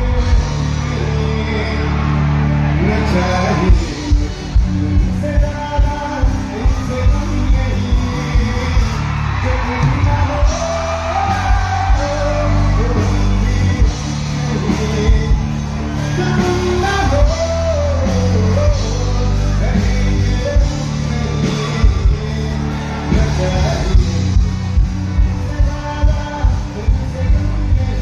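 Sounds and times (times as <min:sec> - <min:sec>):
live band playing: 0:00.0 - 0:28.0
person singing: 0:00.0 - 0:28.0.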